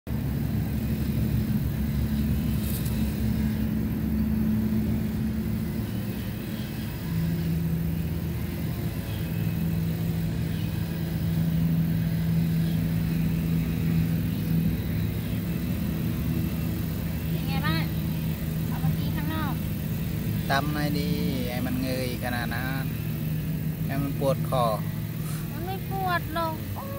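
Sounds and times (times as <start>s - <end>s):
engine rumbling: 0.0s - 26.9s.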